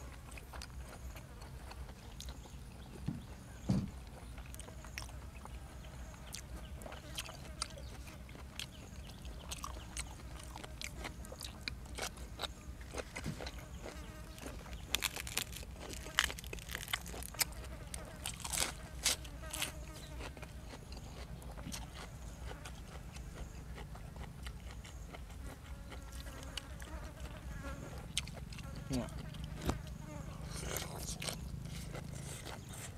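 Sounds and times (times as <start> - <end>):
chewing and crunching food: 0.0 - 32.9
steady low hum: 0.0 - 32.9.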